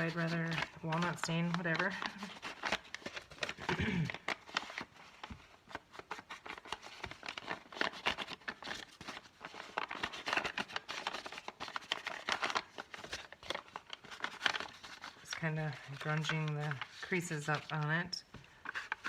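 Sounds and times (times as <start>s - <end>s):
paper crinkling: 0.0s - 19.0s.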